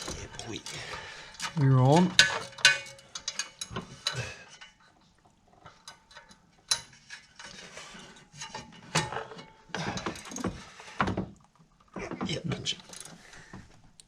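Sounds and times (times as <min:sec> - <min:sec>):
metal tools clinking: 0:00.0 - 0:10.7, 0:11.9 - 0:13.4.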